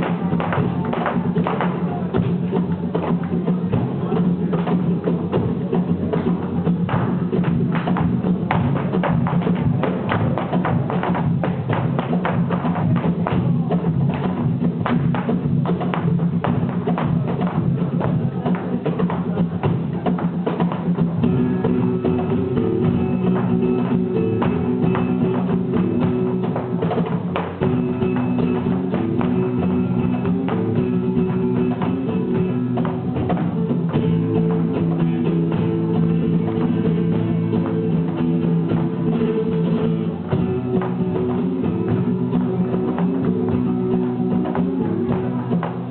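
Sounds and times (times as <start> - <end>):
rapid percussive tapping: 0.0 - 45.9.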